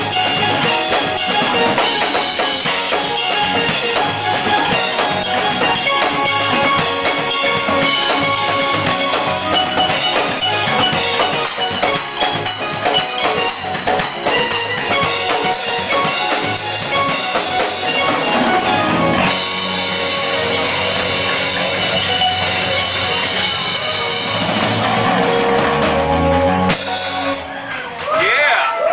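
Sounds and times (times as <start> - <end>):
electric guitar: 0.0 - 28.3
bass guitar: 0.0 - 28.4
drum kit: 0.0 - 28.4.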